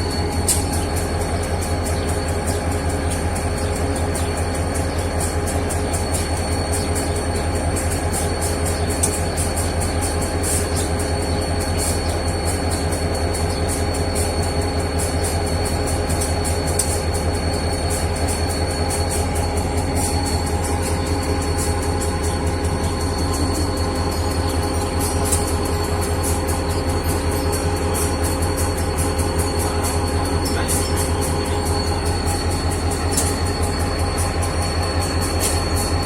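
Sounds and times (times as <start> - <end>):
diesel locomotive engine throb: 0.0 - 36.0
thin high whine: 0.0 - 36.0.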